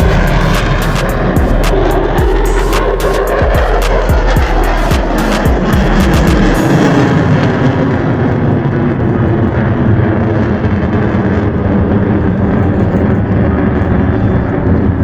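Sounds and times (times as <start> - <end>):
jet engine running: 0.0 - 15.0.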